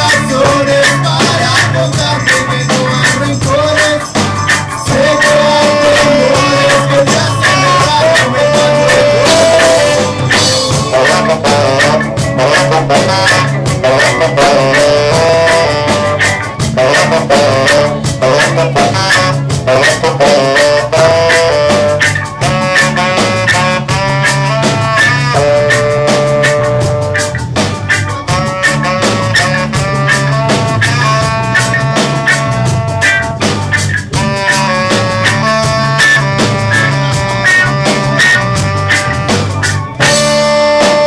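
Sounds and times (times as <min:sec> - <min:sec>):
drumbeat: 0:00.0 - 0:41.0
low bass: 0:00.0 - 0:41.0
saxophone melody: 0:00.0 - 0:41.0.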